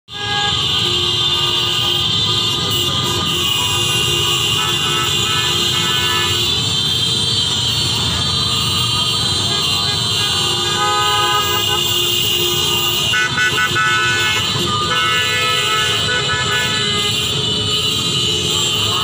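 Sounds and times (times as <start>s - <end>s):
dense city traffic: 0.0s - 19.0s
car horns tooting: 0.1s - 19.0s.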